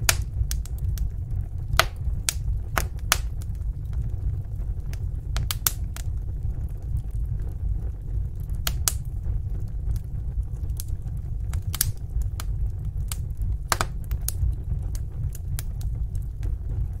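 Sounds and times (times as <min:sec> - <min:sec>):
fire crackling: 0:00.0 - 0:17.0
sharp fire snaps and pops: 0:00.0 - 0:17.0.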